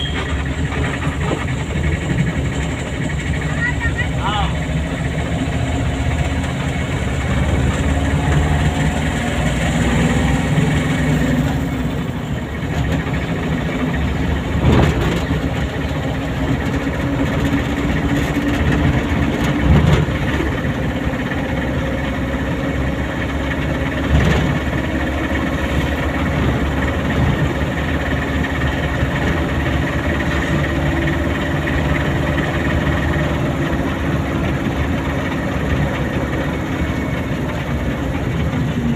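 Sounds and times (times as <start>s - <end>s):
car engine running: 0.0s - 38.9s
road noise: 0.0s - 38.9s.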